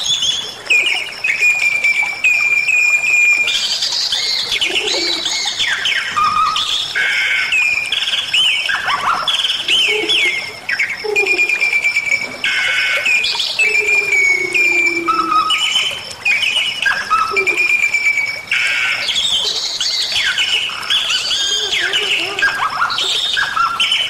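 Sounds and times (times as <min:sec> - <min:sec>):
myna bird singing: 0:00.0 - 0:24.0.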